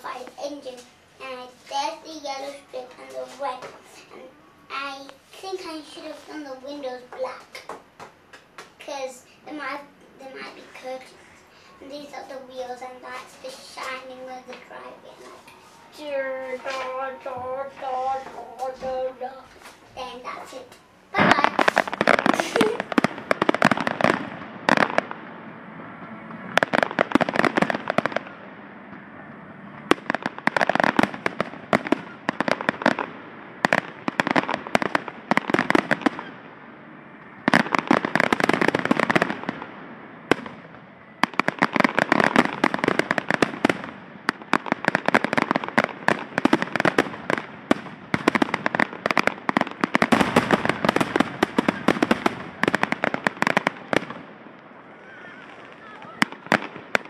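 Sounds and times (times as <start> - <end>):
fireworks crackling: 0.0 - 29.1, 29.7 - 57.0.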